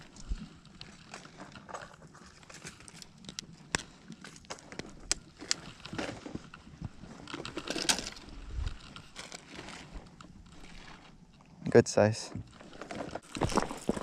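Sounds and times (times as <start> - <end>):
rustling and crunching: 0.0 - 11.7, 12.4 - 14.0.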